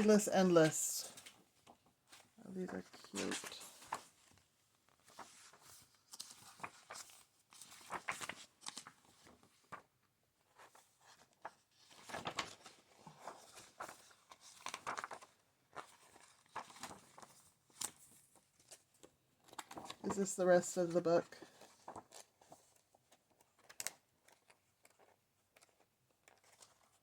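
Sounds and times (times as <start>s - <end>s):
book pages turning: 0.1s - 9.9s, 10.5s - 20.4s, 21.6s - 27.0s.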